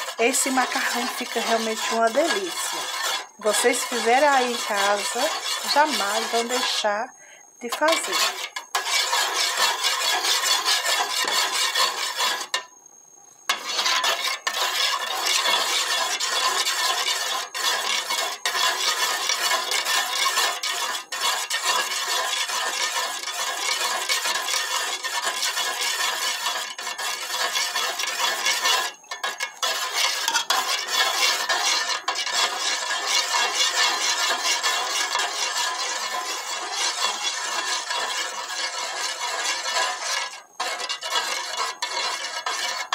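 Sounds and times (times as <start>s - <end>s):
metal spoon stirring in metal pot: 0.0s - 12.7s, 13.5s - 42.9s.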